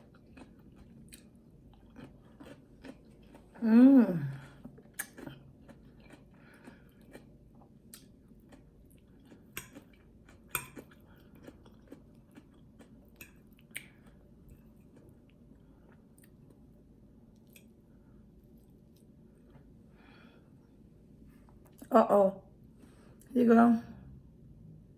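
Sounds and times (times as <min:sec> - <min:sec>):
woman chewing food: 0:00.0 - 0:20.4.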